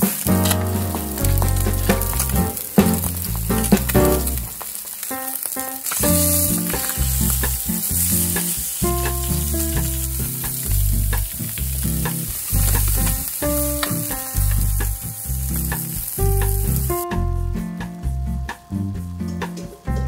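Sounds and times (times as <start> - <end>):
background music with bass line: 0.0 - 4.5, 6.0 - 20.0
fish sizzling in frying pan: 0.0 - 17.1.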